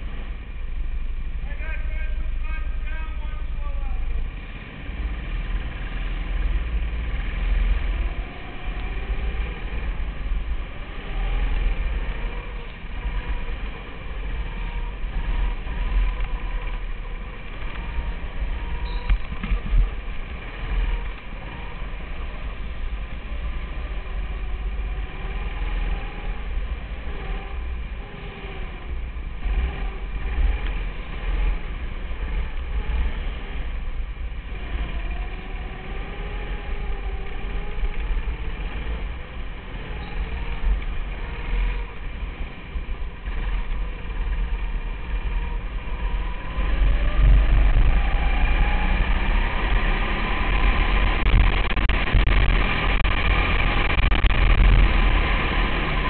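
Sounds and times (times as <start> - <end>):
go-kart engine revving: 0.0 - 56.0
heavy low rumble: 0.0 - 56.0.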